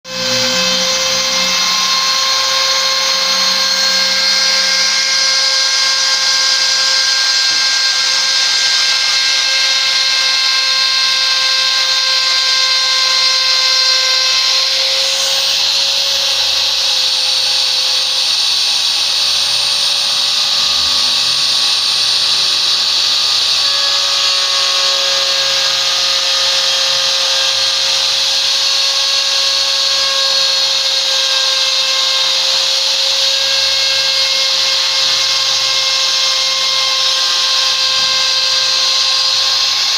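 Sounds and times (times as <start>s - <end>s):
router spindle high whine: 0.0s - 39.9s
bit engraving wood: 0.1s - 39.9s.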